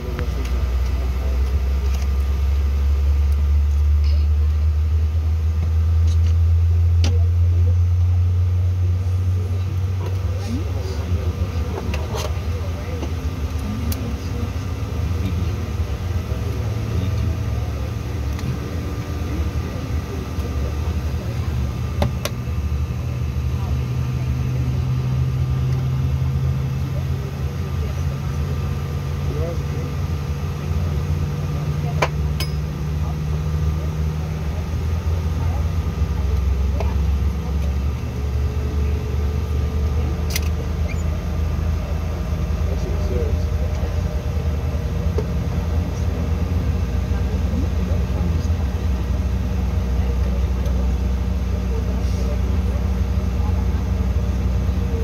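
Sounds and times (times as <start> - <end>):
airliner cabin rumble and hum: 0.0 - 55.0.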